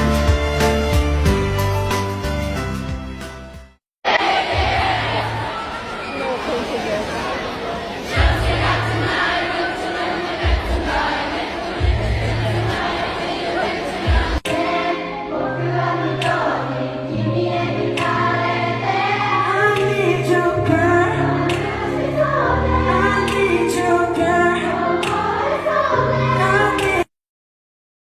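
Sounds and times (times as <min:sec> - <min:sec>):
backing music: 0:00.0 - 0:05.6, 0:08.1 - 0:27.1
crowd singing along: 0:04.1 - 0:27.1.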